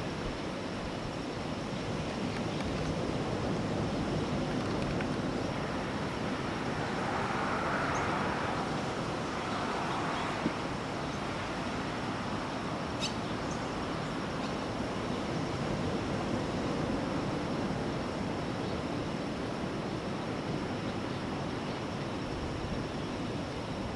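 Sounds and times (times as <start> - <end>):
ocean surf on beach: 0.0 - 23.9.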